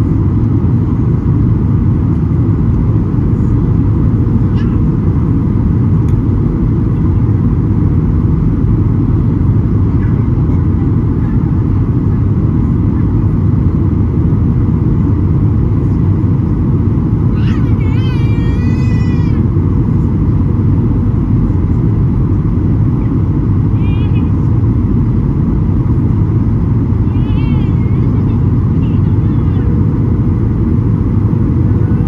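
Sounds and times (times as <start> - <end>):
airplane cabin roar: 0.0 - 32.0.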